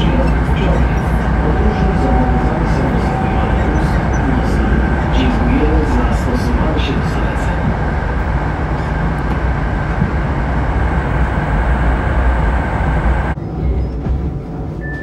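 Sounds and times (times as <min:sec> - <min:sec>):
train rumbling and rolling: 0:00.0 - 0:15.0.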